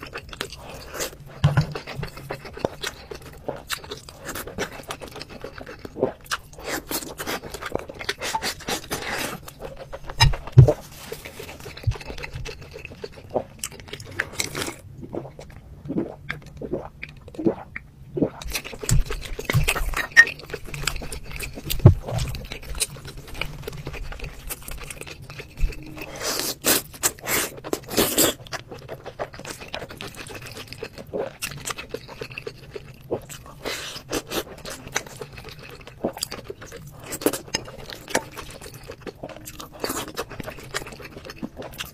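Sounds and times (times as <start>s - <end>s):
chewing: 0.0s - 41.9s.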